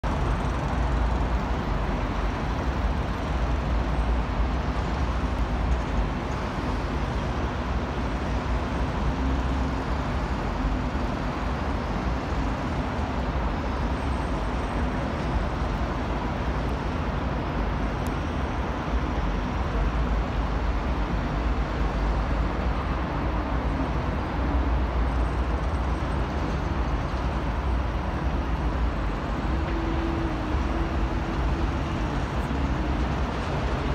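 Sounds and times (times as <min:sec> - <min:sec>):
distant city traffic rumble: 0:00.0 - 0:33.9.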